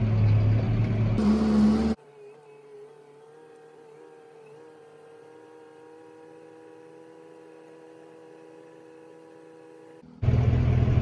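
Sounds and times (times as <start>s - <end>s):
tractor engine hum from cab: 0.0s - 11.0s.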